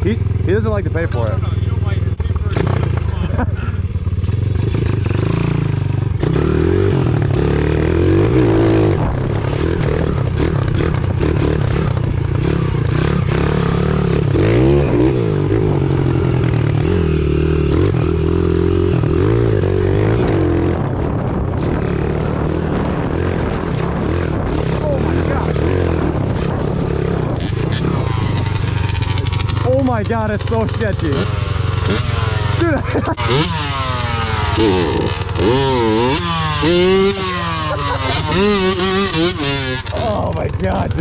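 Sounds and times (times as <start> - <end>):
pit bike engine revving: 0.0 - 41.0.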